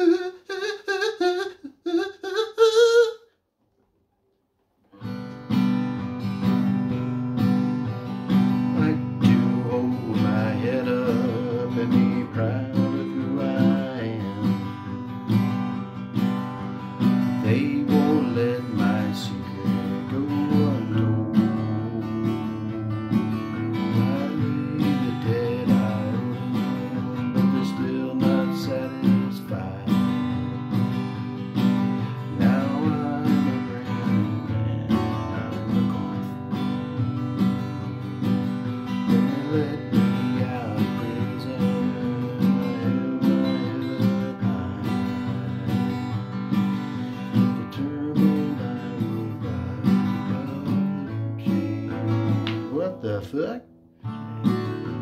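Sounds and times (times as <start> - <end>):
man singing: 0.0 - 3.3, 8.3 - 36.8, 37.9 - 53.7
acoustic guitar strumming: 4.9 - 55.0.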